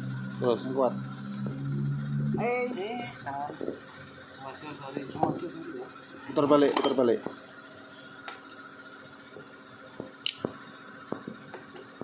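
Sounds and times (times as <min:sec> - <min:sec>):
faint steady background hum: 0:00.0 - 0:12.0.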